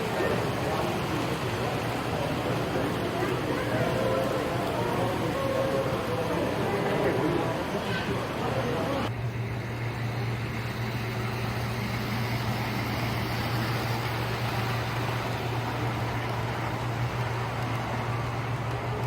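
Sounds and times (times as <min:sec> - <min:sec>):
model train running: 0:00.0 - 0:19.0.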